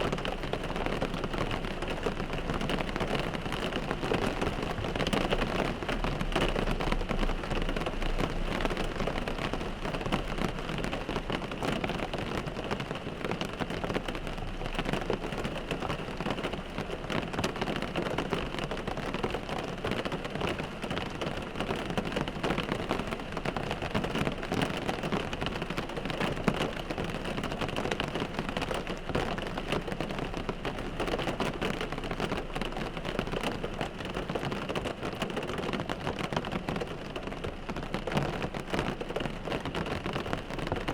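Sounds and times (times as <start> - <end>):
rain on car windshield: 0.0 - 40.9.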